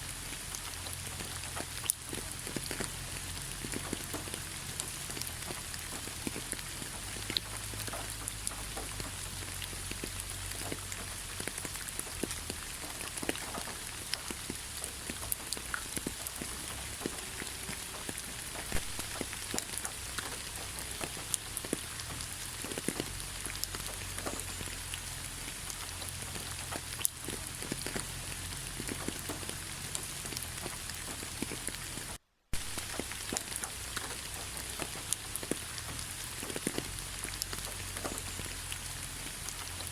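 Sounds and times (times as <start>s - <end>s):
raindrops tapping close by: 0.0s - 39.9s
steady rain hiss: 0.0s - 39.9s.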